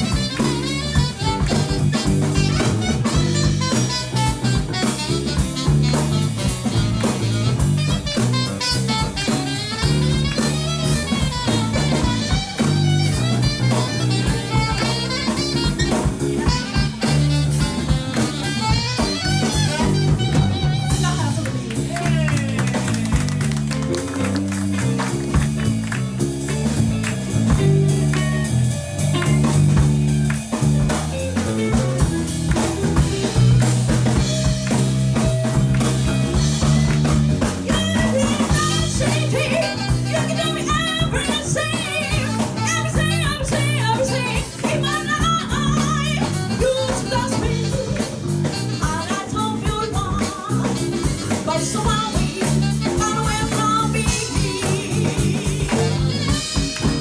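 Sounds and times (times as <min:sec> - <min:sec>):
live blues band playing: 0:00.0 - 0:57.0.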